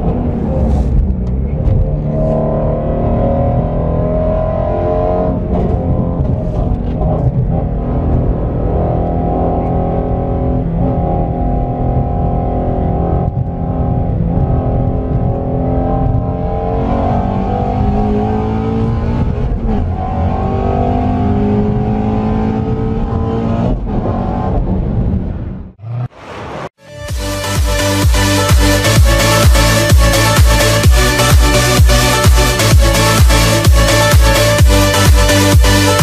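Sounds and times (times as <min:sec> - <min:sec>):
car engine accelerating hard: 0:00.0 - 0:36.0.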